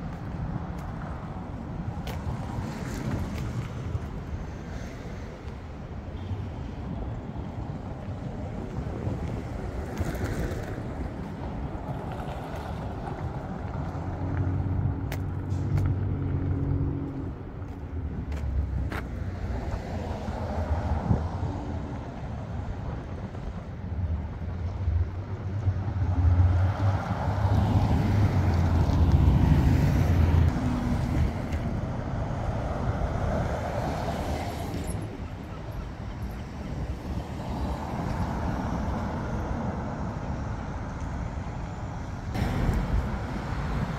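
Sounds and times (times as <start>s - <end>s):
cars and trucks driving past: 0.0s - 43.9s.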